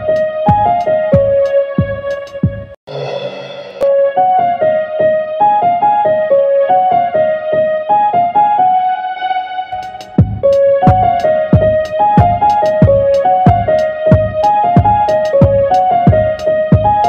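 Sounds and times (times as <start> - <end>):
electric piano melody: 0.0 - 2.8, 3.8 - 17.0.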